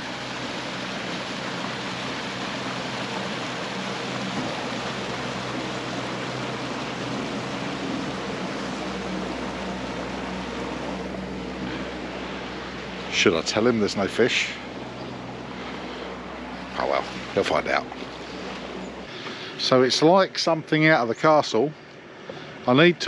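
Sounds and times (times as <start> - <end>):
outboard motor running: 0.0 - 20.8
constant rushing noise: 0.0 - 23.0.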